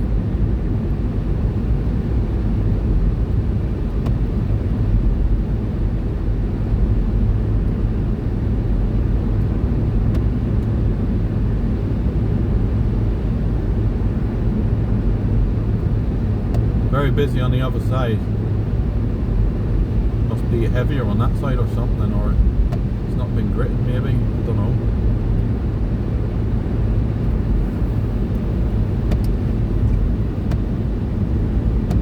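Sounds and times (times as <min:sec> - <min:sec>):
car engine hum: 0:00.0 - 0:32.0
road and tyre noise: 0:00.0 - 0:32.0.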